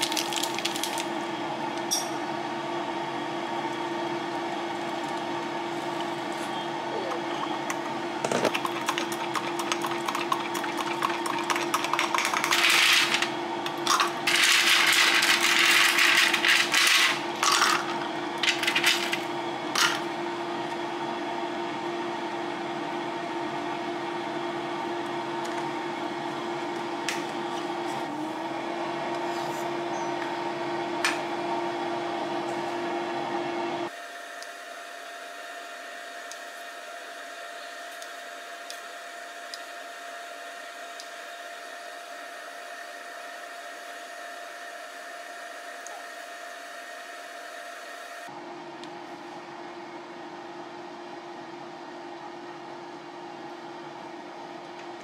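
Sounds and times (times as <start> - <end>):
steady appliance hum: 0.0 - 55.0.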